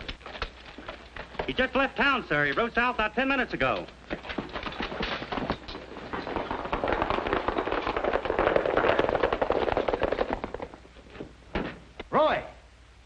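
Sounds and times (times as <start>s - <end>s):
horses galloping: 0.0s - 12.0s.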